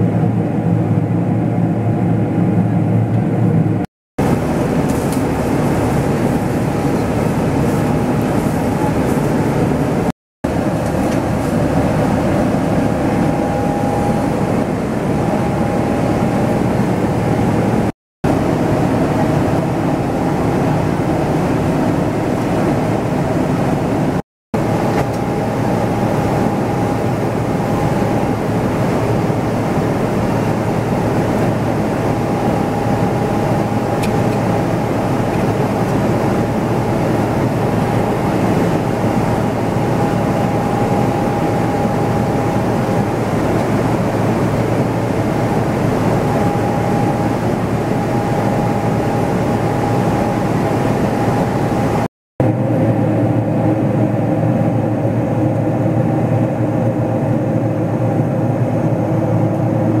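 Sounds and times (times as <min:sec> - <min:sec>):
airplane cabin engine drone: 0:00.0 - 1:00.0
faint steady whine: 0:00.0 - 1:00.0
low hums: 0:00.0 - 1:00.0.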